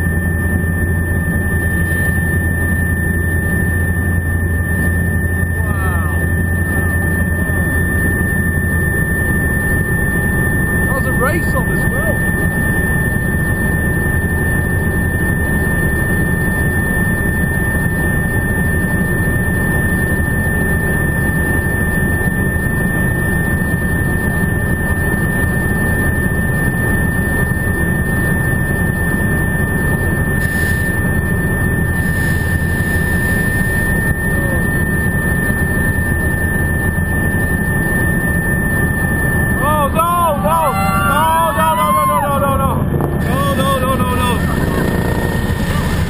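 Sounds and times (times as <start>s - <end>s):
helicopter rotor and engine drone: 0.0s - 46.0s
high whine: 0.0s - 46.0s.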